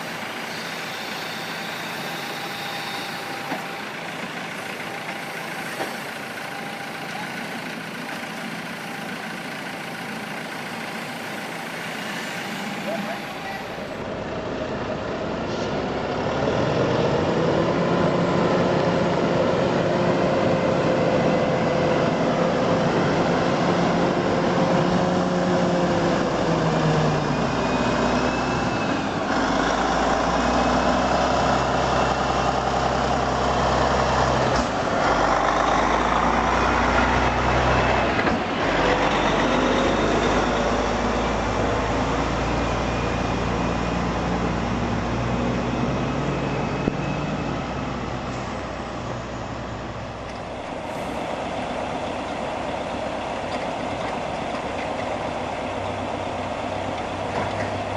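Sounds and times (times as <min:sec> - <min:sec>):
heavy machinery engines running: 0:00.0 - 0:57.9.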